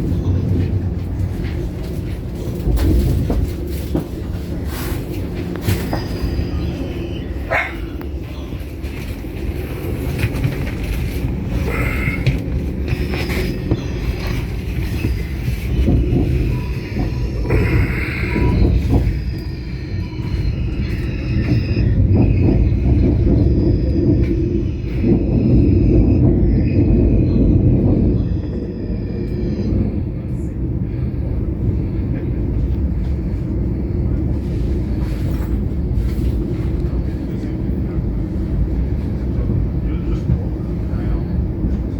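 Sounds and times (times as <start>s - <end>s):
train rumble inside carriage: 0.0s - 41.9s.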